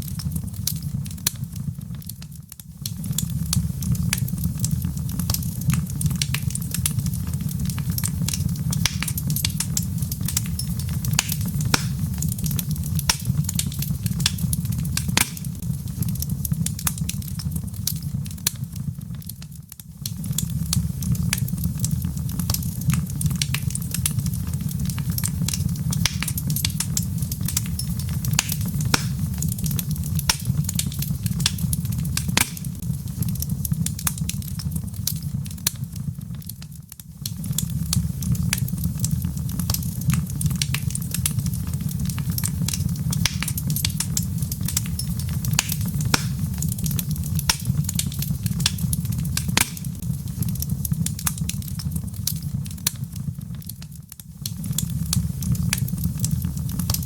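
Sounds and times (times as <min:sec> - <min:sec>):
low rumble of fire: 0:00.0 - 0:57.0
wood fire crackling: 0:00.0 - 0:57.0.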